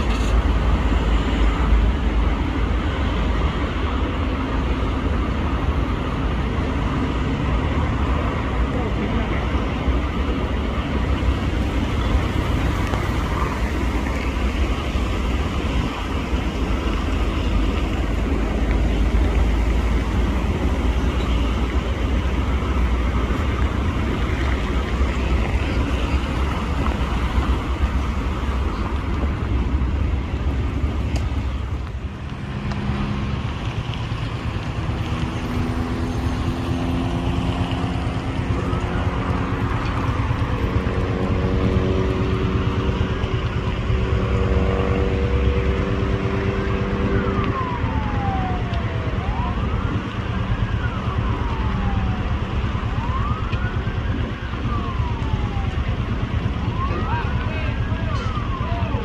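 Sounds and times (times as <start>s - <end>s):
heavy engine and traffic rumble: 0.0s - 59.0s
siren wailing: 8.9s - 59.0s.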